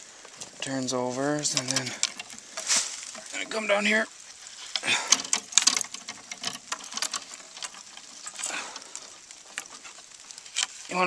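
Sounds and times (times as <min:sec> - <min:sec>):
wire clicking and scraping on wood: 0:00.0 - 0:11.0.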